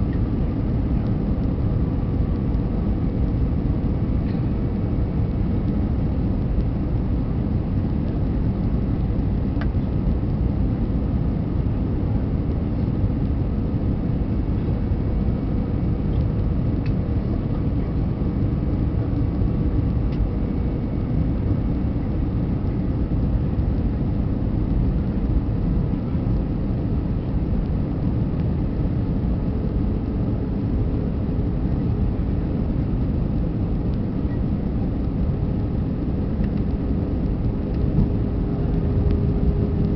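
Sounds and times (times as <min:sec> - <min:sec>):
aircraft cabin engine rumble: 0:00.0 - 0:39.9
faint steady hum: 0:00.0 - 0:39.9.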